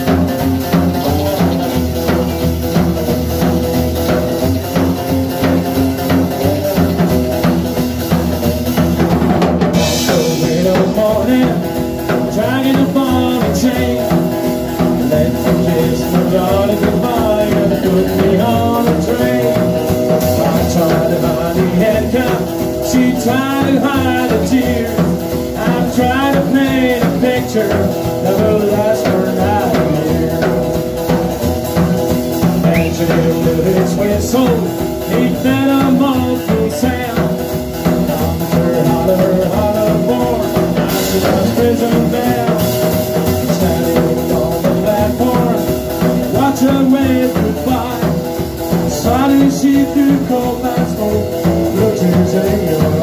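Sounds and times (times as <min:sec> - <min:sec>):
drum kit: 0:00.0 - 0:53.0
electric guitar: 0:00.0 - 0:53.0
male lead vocals: 0:00.0 - 0:53.0
strummed acoustic guitar: 0:00.0 - 0:53.0
upright double bass: 0:00.0 - 0:53.0.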